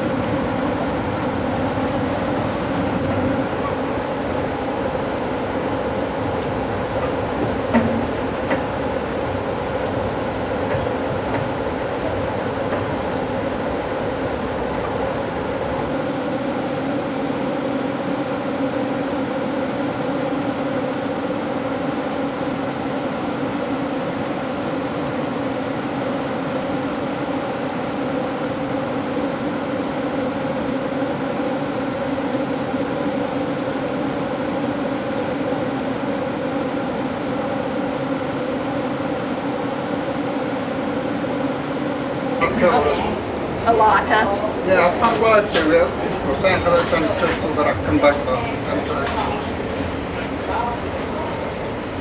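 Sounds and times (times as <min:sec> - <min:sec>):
train car rumble: 0:00.0 - 0:52.0.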